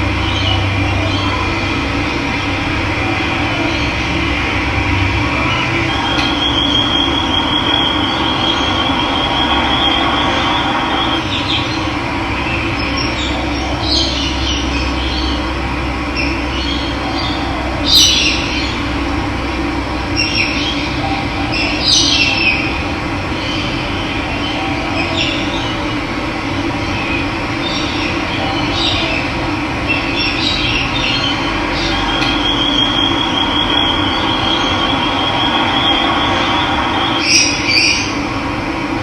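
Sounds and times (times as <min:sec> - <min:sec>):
birds chirping and trilling: 0:00.2 - 0:18.9, 0:20.1 - 0:26.0, 0:26.6 - 0:38.3.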